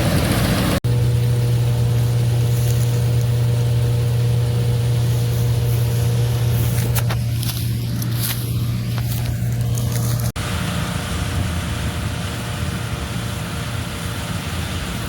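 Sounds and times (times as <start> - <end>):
noisy burst cutting off: 0.0 - 15.0
tractor engine droning: 0.0 - 15.0.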